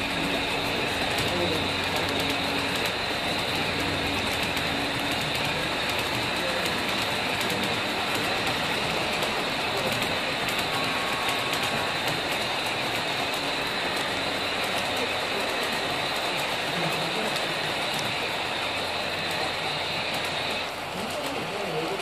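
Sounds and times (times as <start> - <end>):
model train cars rolling: 0.0 - 22.0
wheels clicking on rails: 0.0 - 22.0.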